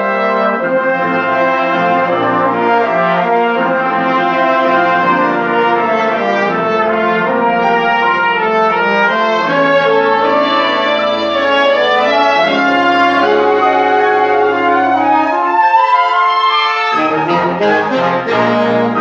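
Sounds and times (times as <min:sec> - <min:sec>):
brass ensemble playing: 0:00.0 - 0:19.0.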